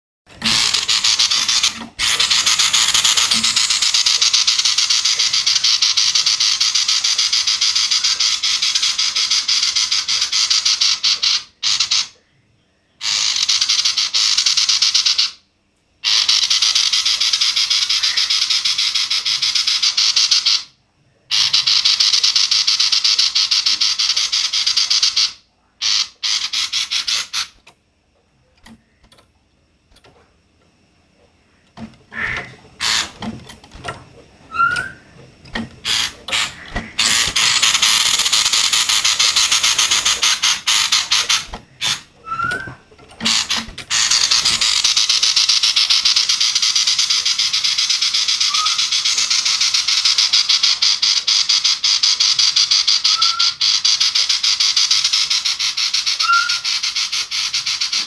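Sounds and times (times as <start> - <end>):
bird buzzing rattle call: 0.3 - 12.2, 13.0 - 15.4, 16.0 - 20.7, 21.3 - 27.7, 32.1 - 58.0.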